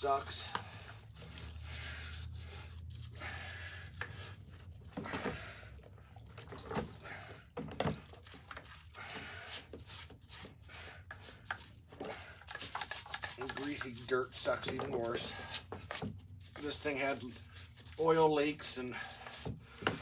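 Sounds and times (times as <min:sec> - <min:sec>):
brush scrubbing metal part: 0:00.0 - 0:04.6, 0:08.0 - 0:20.0.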